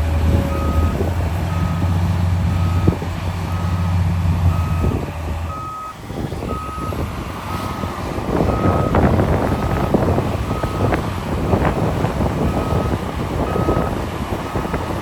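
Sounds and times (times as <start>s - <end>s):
diesel engine drone: 0.0s - 15.0s
reversing alarm beeping: 0.4s - 11.7s, 12.5s - 15.0s.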